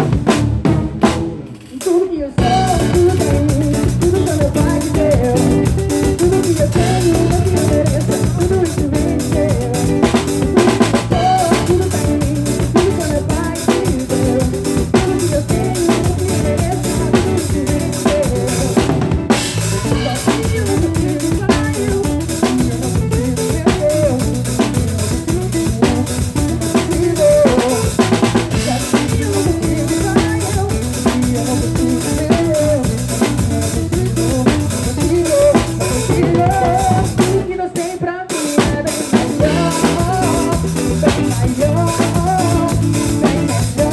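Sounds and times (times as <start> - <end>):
drum kit: 0.0 - 43.9
live band music: 0.0 - 43.9.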